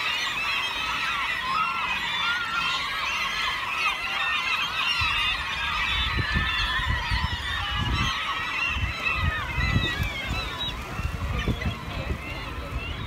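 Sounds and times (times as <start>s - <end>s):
gulls squawking: 0.0s - 13.0s.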